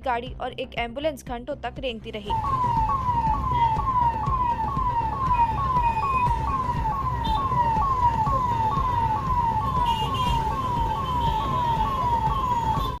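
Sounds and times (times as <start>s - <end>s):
low rumble of road traffic: 2.2s - 13.0s
emergency siren wailing: 2.3s - 13.0s.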